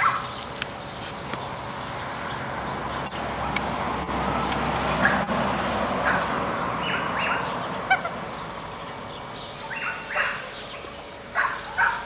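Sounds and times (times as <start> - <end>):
ducks calling: 0.0 - 12.0.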